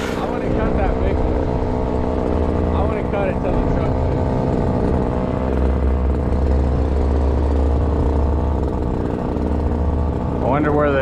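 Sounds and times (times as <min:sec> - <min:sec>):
two-stroke engine idling: 0:00.0 - 0:11.0.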